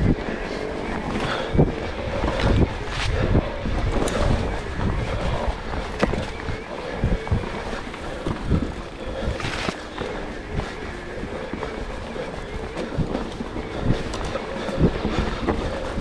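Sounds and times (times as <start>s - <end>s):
bike knocking and rattling: 0.0s - 16.0s
wind buffeting microphone: 0.0s - 16.0s.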